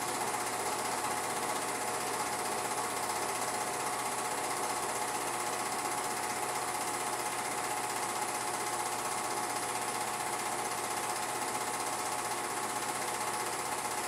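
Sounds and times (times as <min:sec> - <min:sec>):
film projector clatter: 0:00.0 - 0:14.0.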